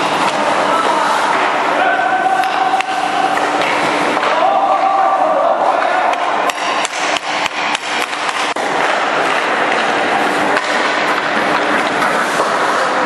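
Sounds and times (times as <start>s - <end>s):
hockey sticks clacking pucks: 0.0s - 4.8s, 5.6s - 13.0s
ice rink background noise: 0.0s - 13.0s.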